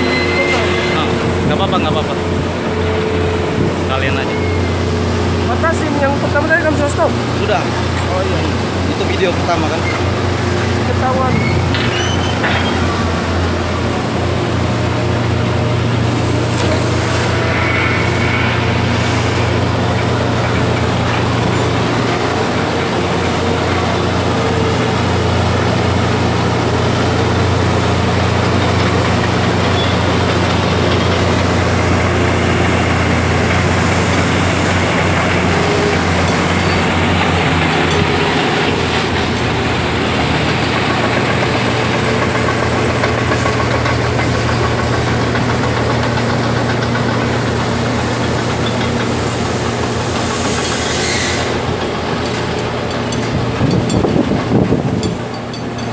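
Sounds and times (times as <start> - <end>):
large diesel engine droning: 0.0 - 55.9.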